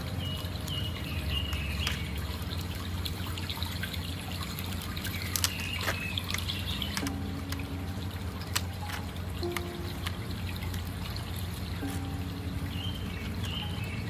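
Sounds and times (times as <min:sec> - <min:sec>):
low hum: 0:00.0 - 0:14.0
water trickling: 0:00.0 - 0:14.0.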